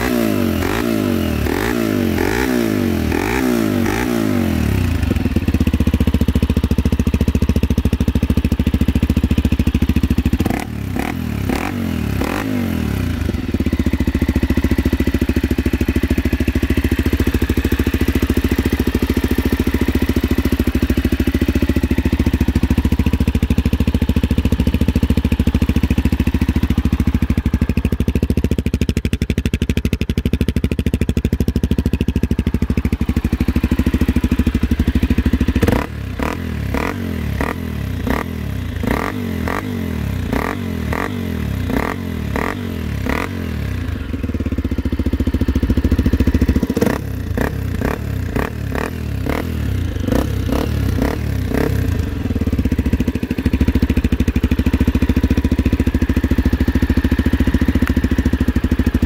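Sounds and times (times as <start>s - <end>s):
motorcycle engine revving and idling: 0.0s - 59.0s.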